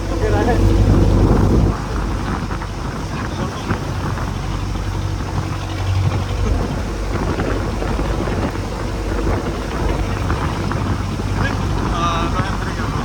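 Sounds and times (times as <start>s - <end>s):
boat engine running: 0.0s - 13.0s
rough water rushing: 0.0s - 13.0s
wind buffeting microphone: 0.0s - 13.0s.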